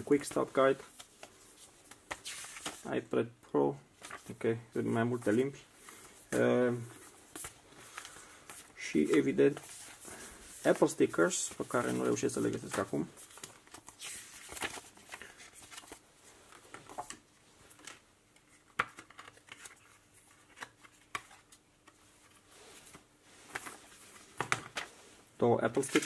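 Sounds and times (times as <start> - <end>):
paper rustling: 0.0 - 2.9, 4.0 - 18.0, 18.6 - 26.0.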